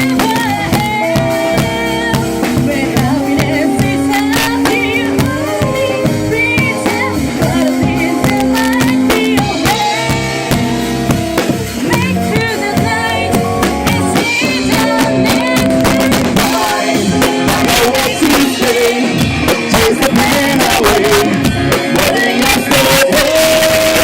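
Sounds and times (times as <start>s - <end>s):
drums: 0.0s - 24.0s
live rock band playing: 0.0s - 24.0s.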